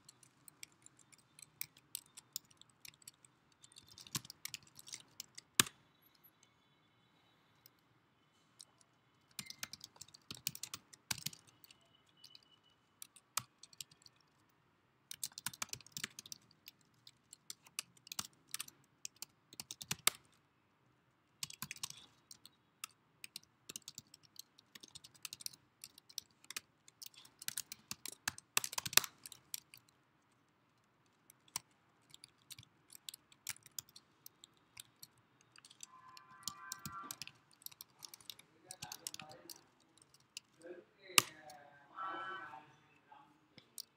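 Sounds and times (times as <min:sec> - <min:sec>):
computer keyboard typing: 0:00.0 - 0:06.2, 0:08.6 - 0:14.5, 0:15.1 - 0:20.4, 0:21.4 - 0:41.6, 0:43.6 - 0:43.9.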